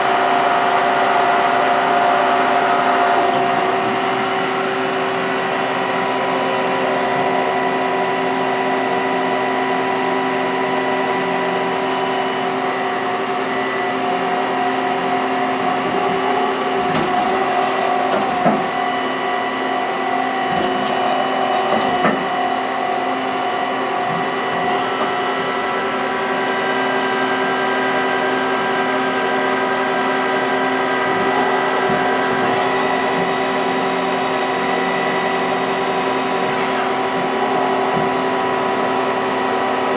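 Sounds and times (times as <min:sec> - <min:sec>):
lathe motor and spindle whine: 0:00.0 - 0:39.9.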